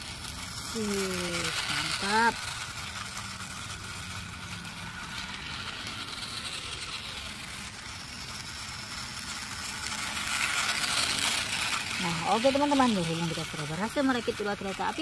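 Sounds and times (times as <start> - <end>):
toy train motor whirring: 0.0 - 15.0
wheels rattling on plastic track: 0.0 - 15.0.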